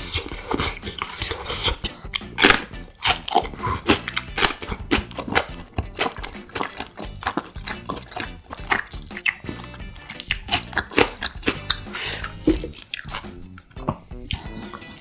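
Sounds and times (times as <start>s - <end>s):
crunching and chewing raw pepper: 0.0s - 15.0s.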